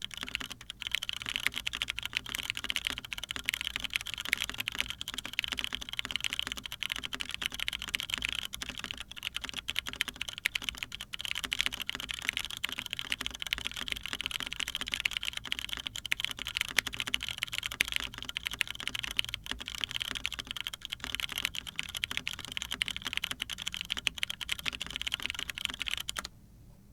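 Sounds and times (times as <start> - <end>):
fast typing on mechanical keyboard: 0.0 - 26.3.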